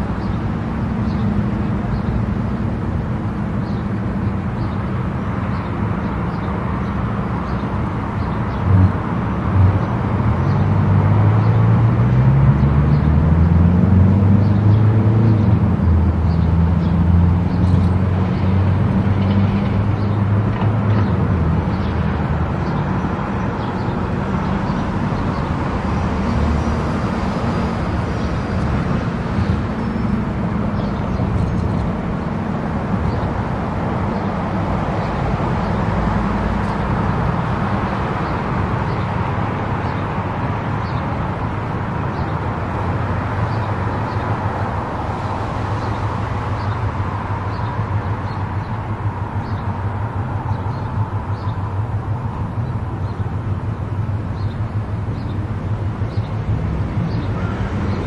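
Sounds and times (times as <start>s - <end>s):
tyre and engine noise: 0.0s - 58.0s.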